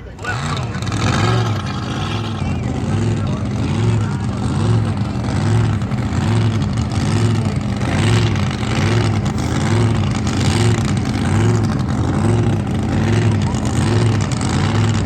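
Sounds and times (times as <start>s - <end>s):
boat engine idling with a lope: 0.0s - 15.0s.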